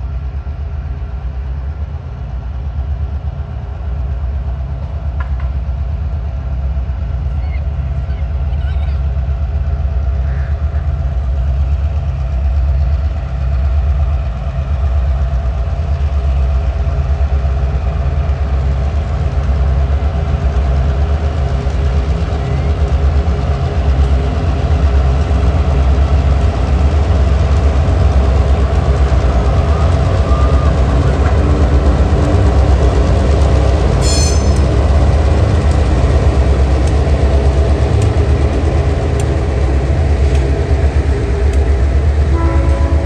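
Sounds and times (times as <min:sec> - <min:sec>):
locomotive engine rumble pulsing: 0:00.0 - 0:43.0.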